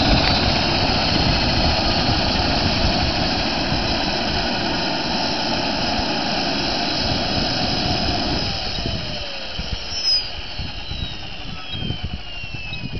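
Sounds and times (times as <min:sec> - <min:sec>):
turbine engine whine lowering: 0:00.0 - 0:12.9.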